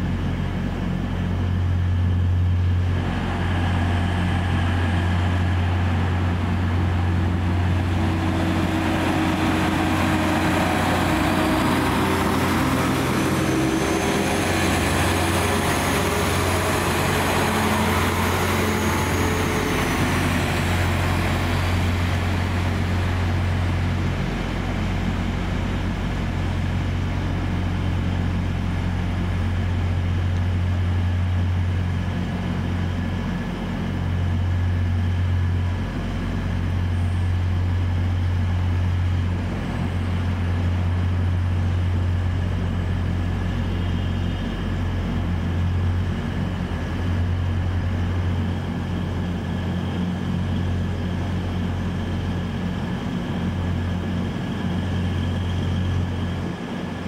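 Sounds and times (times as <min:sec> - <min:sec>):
diesel train engine droning: 0:00.0 - 0:57.0.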